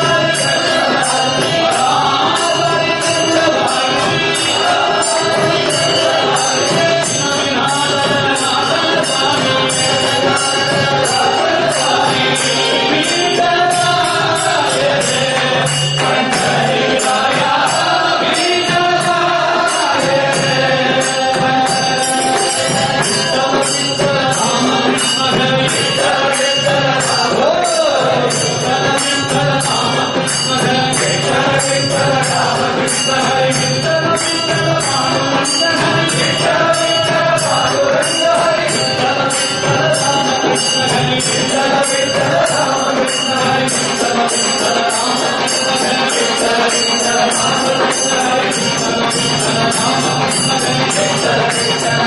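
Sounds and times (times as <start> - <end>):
hand cymbals beat: 0.0 - 52.0
man singing devotional song: 0.0 - 52.0.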